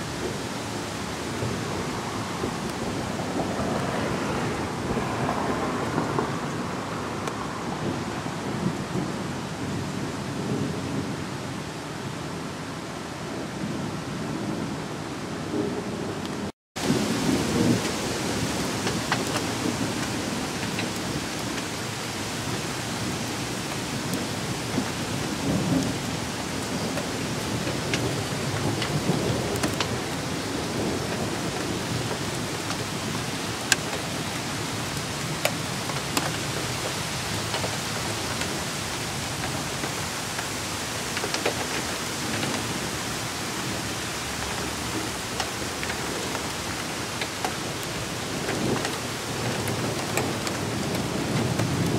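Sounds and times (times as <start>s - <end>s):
thunder rumbling: 0.0s - 11.5s, 15.4s - 51.9s
heavy rain on pavement: 0.0s - 51.9s.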